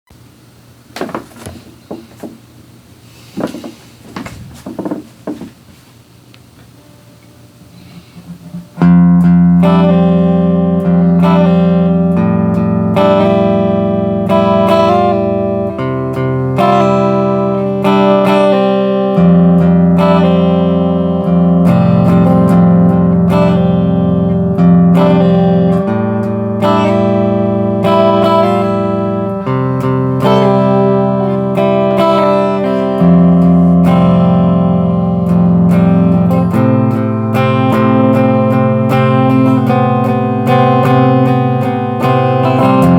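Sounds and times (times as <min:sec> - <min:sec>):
electric guitar riff: 0:06.7 - 0:42.9.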